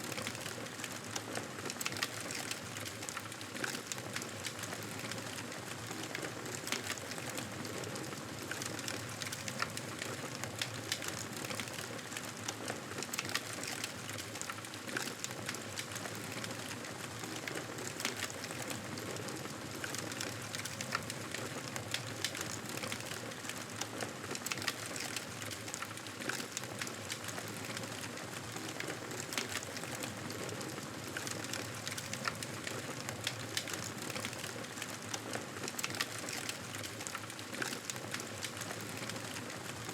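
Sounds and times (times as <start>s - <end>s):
fire crackling and popping: 0.1s - 39.6s.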